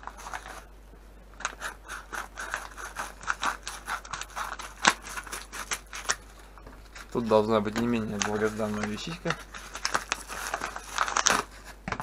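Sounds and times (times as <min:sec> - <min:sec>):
packaging crinkling: 0:00.0 - 0:00.7, 0:01.4 - 0:12.0.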